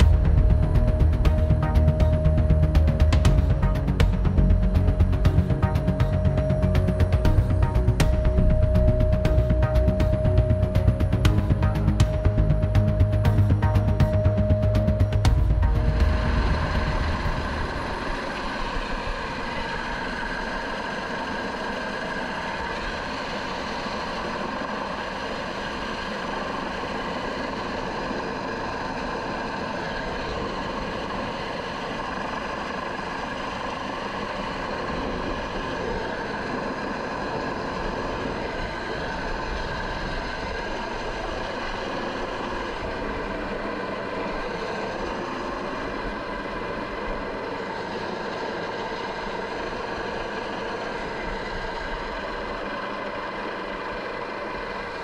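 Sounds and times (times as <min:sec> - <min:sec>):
helicopter turbine whine: 0:00.0 - 0:55.0.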